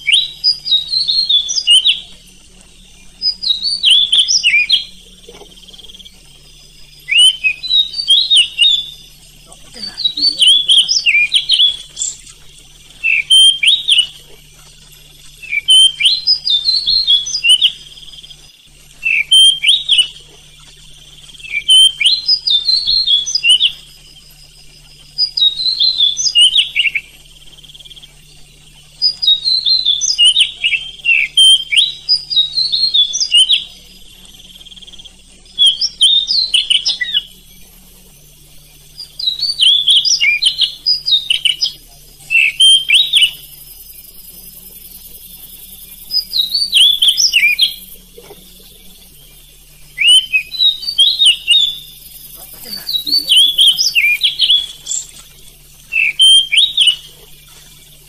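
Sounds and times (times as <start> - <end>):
bird singing whistled notes: 0.0 - 58.0
faint steady hum: 0.0 - 58.0.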